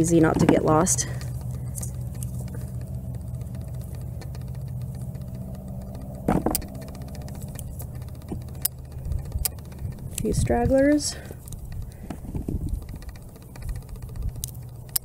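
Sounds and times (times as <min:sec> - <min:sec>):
low hum: 0:00.0 - 0:15.0
sharp clicks: 0:00.0 - 0:15.0.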